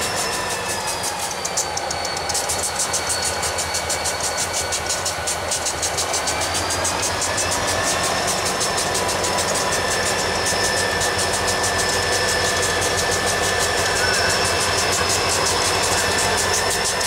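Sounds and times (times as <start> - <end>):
diesel locomotive engines: 0.0 - 17.0
high-pitched whine: 0.0 - 17.0.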